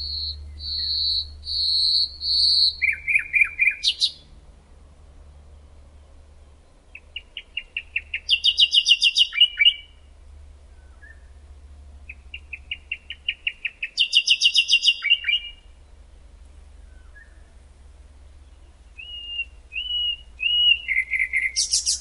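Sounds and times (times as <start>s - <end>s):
songbird singing trill: 0.0s - 4.4s, 5.3s - 22.0s.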